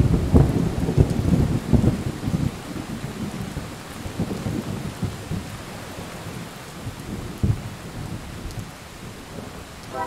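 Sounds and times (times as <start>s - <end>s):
steady rain: 0.0s - 10.0s
thunder rumbling: 0.0s - 10.0s.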